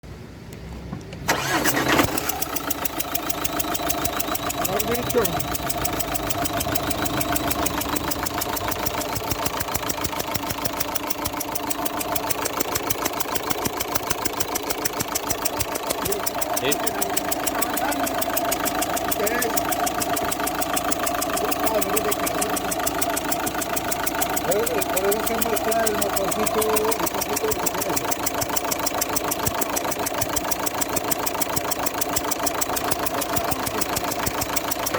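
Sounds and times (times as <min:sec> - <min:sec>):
diesel engine idling with ticking puff: 0:01.2 - 0:34.9.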